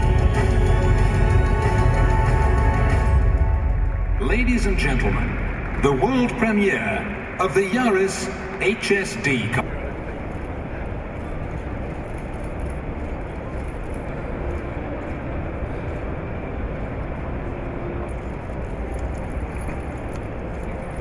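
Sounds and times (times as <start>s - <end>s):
low rumble of hall background noise: 0.0s - 21.0s.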